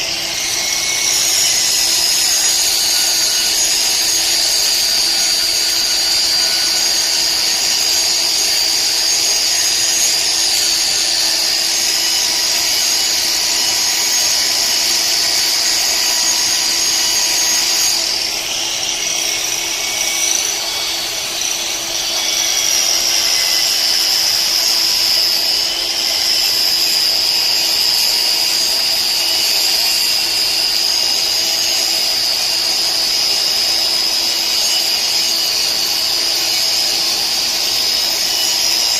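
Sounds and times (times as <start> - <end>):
power tool whining: 0.0 - 38.9.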